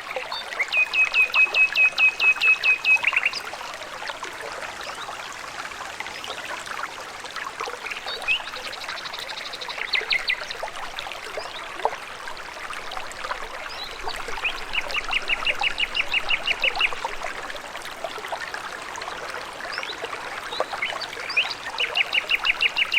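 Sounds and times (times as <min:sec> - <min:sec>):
stream trickling: 0:00.0 - 0:22.9.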